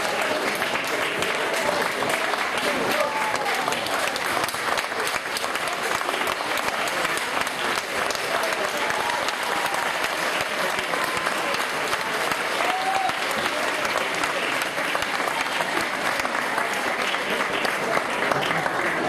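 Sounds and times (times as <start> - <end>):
stadium crowd applauding: 0.0 - 19.0.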